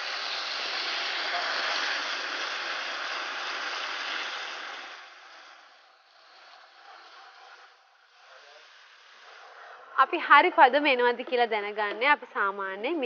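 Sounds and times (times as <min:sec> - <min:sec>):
caramel hissing and bubbling in pan: 0:00.0 - 0:13.0.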